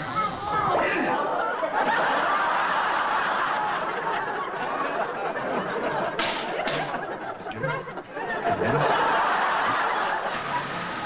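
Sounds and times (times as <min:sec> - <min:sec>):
studio audience laughing: 0:00.2 - 0:11.0.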